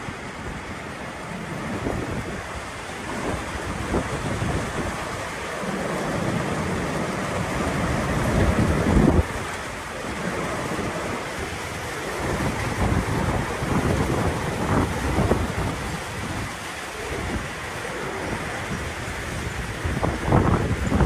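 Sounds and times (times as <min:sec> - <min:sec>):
storm wind buffeting microphone: 0:00.0 - 0:21.0.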